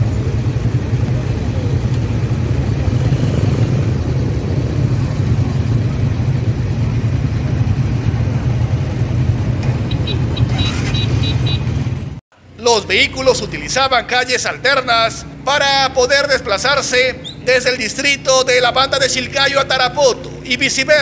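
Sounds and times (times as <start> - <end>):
traffic engines idling: 0.0 - 21.0.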